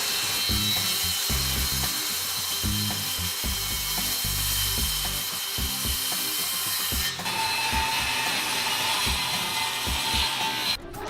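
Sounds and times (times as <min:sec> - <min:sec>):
power tool cutting wood: 0:00.0 - 0:10.8
background music: 0:00.0 - 0:11.0.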